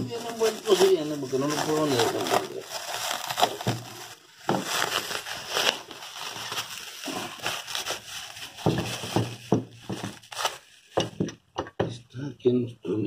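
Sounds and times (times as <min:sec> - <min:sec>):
plastic wrap crinkling and tearing: 0:00.0 - 0:11.2.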